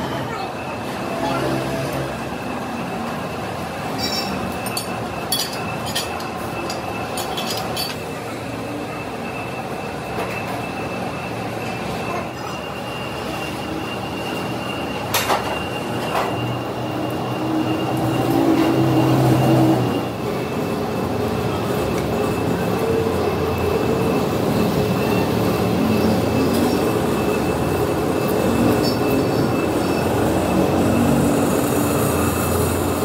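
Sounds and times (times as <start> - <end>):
machinery high whine: 0.0 - 33.0.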